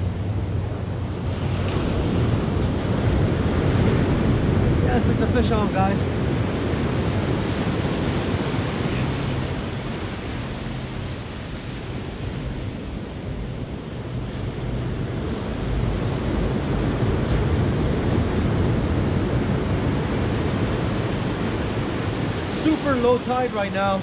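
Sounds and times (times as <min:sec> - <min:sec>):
ocean surf washing on shore: 0:00.0 - 0:24.0
wind rumbling on microphone: 0:00.0 - 0:24.0.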